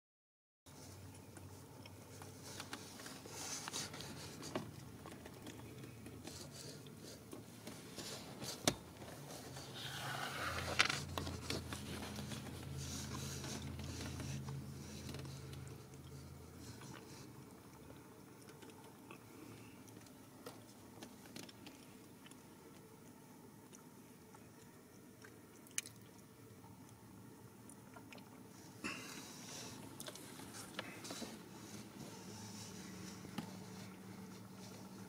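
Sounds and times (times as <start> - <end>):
cat licking and grooming: 0.7 - 10.2, 11.0 - 35.0
low steady hum: 0.7 - 35.0.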